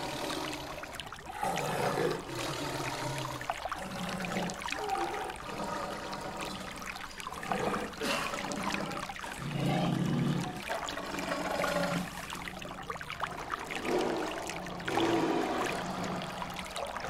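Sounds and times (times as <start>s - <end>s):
running water rushing: 0.0s - 17.0s
water splashing and churning: 0.0s - 17.0s.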